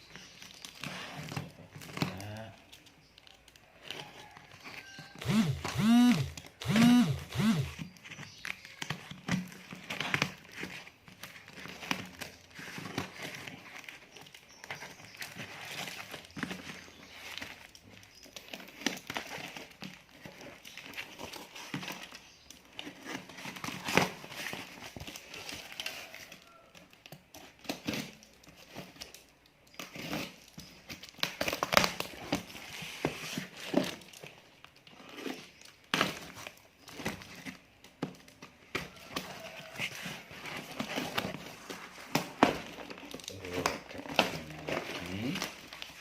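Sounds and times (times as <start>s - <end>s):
packing material crinkling: 0.0s - 46.0s.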